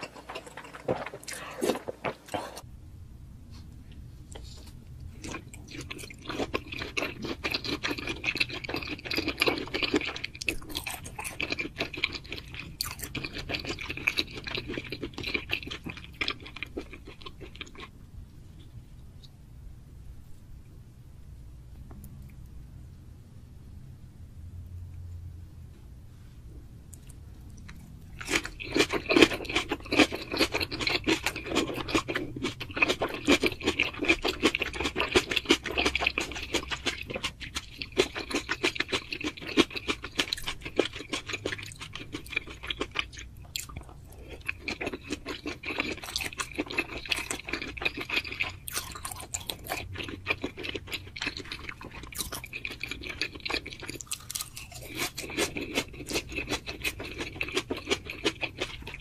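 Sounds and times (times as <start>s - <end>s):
person chewing food: 0.0s - 2.7s, 3.6s - 18.0s, 26.9s - 59.0s.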